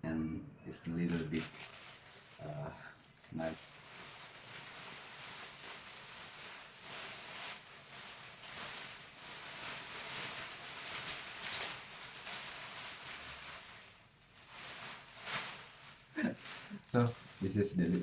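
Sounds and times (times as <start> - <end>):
plastic raincoat rustling: 1.0 - 18.0.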